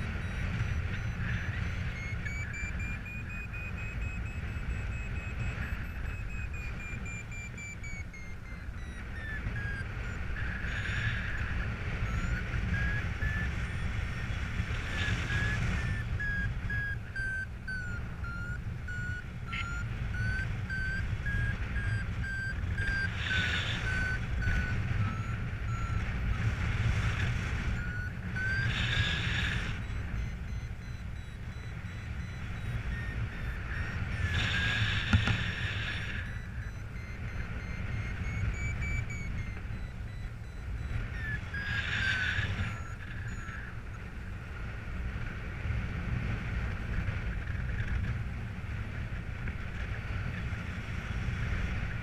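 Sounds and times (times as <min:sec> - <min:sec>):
variometer beeping: 0:00.0 - 0:52.0
wind noise on microphone: 0:00.0 - 0:52.0.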